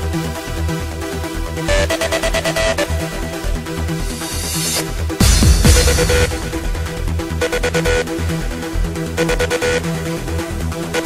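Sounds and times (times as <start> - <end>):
electronic dance music: 1.6 - 11.0.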